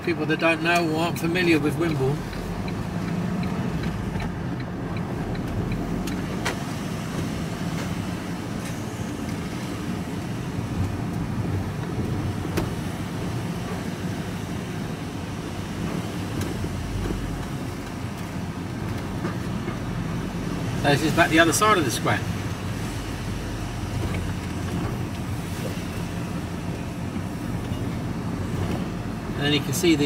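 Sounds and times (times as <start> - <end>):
engine and road noise: 0.0 - 30.0.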